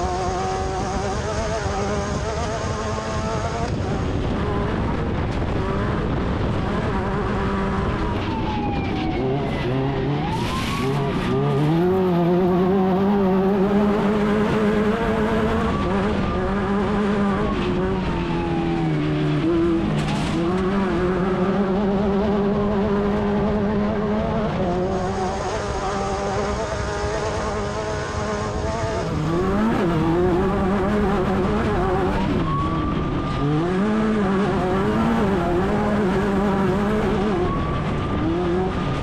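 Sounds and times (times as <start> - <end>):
race buggy engine at high revs: 0.0 - 8.4, 9.0 - 39.0.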